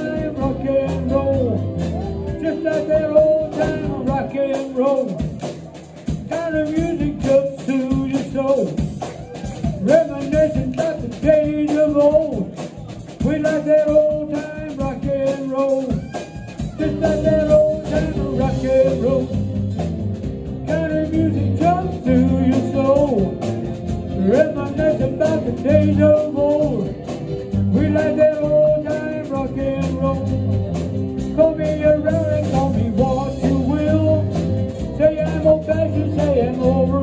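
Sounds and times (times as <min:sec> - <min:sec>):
man singing into microphone: 0:00.0 - 0:05.3, 0:06.2 - 0:09.0, 0:09.8 - 0:12.6, 0:13.2 - 0:19.5, 0:20.6 - 0:23.5, 0:24.1 - 0:27.0, 0:27.6 - 0:30.5, 0:31.3 - 0:37.0
electric bass: 0:00.0 - 0:37.0
rock band playing: 0:00.0 - 0:37.0.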